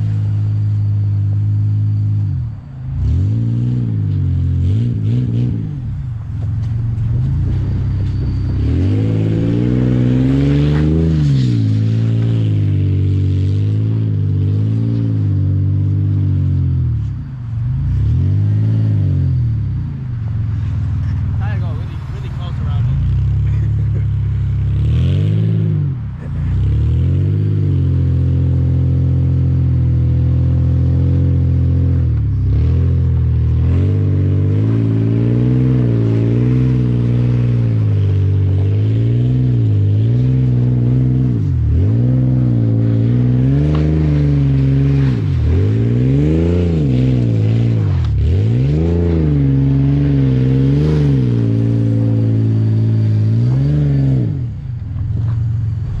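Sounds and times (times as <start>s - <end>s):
pickup engine revving hard: 3.0s - 5.9s, 7.5s - 16.8s, 22.0s - 54.6s.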